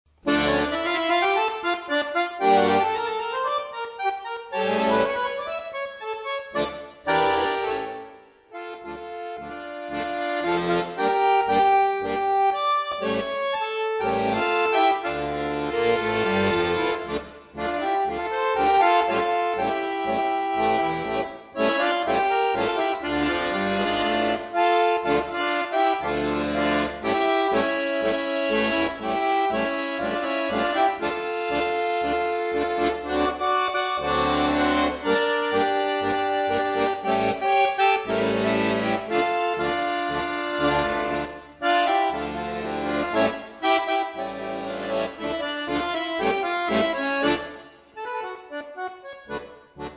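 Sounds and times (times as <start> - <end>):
accordion music: 0.1 - 49.9.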